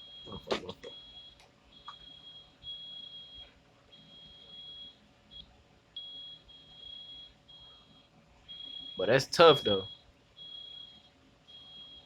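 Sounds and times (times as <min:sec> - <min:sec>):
smoke alarm beeping: 0:00.0 - 0:12.0.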